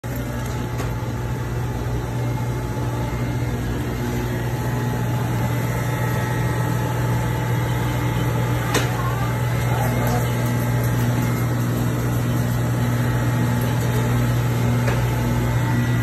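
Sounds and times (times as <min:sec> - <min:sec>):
low machinery hum: 0:00.0 - 0:16.0.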